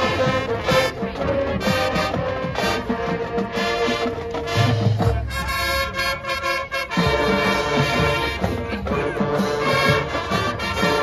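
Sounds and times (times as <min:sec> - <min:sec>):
marching band brass music: 0:00.0 - 0:11.0.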